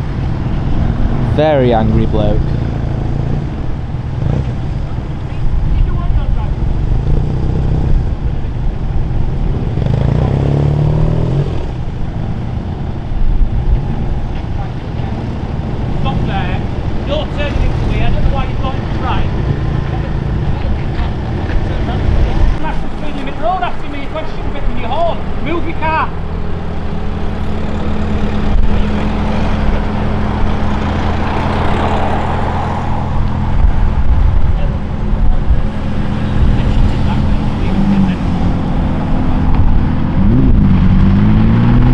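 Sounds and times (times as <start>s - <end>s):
car engine pulling away: 0.0s - 41.9s
low rumble of running engines: 0.0s - 41.9s
road noise: 0.0s - 41.9s.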